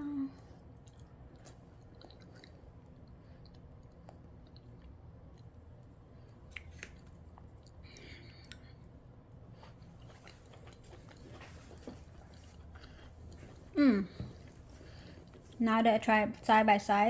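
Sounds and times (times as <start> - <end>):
person chewing soft food: 0.4 - 15.6.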